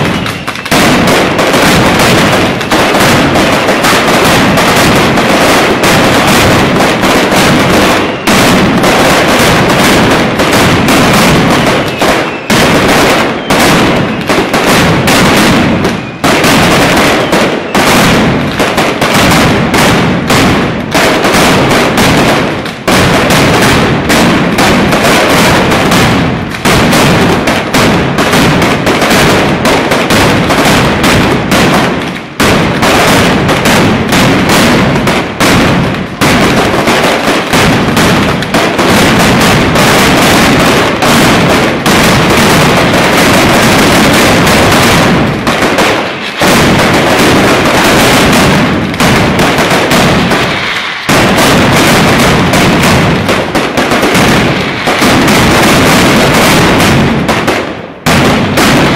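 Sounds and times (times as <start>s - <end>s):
firecracker explosions barrage: 0.0s - 58.9s.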